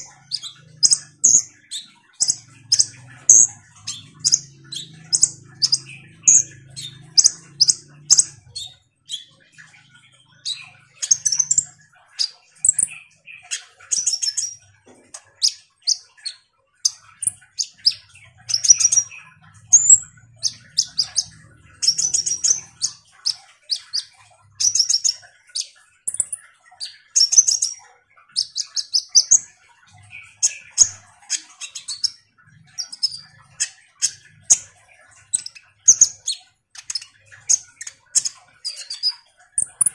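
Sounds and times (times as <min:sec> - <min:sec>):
bird chirps and buzzy trills: 0:00.0 - 0:39.9.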